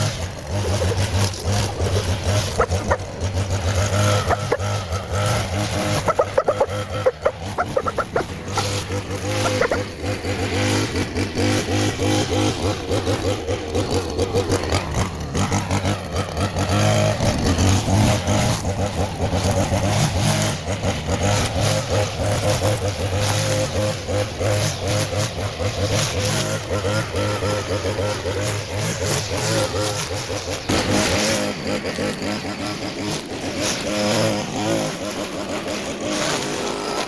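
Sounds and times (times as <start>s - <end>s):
string trimmer motor cutting: 0.0s - 37.0s.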